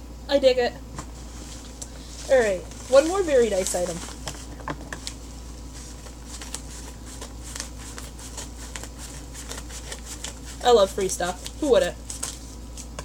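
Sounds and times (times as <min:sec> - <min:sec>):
padded paper mailer crinkling: 0:01.5 - 0:13.0.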